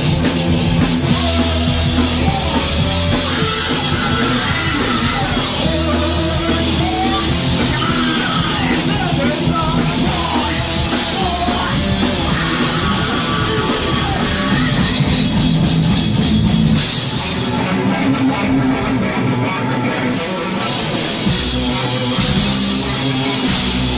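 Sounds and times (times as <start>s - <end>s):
bending melodic guitar line: 0.0s - 23.9s
thrash metal band playing: 0.0s - 23.9s.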